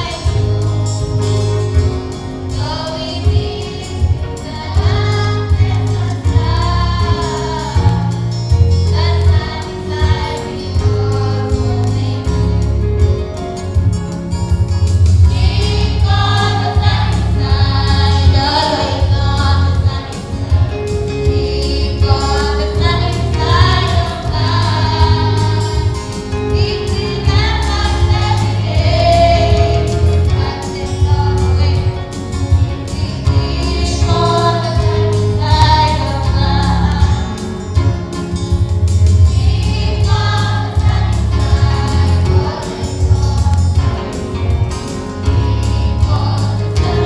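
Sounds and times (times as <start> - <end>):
children's choir singing: 0.0 - 12.8, 15.1 - 47.0
steady bass line: 0.0 - 47.0.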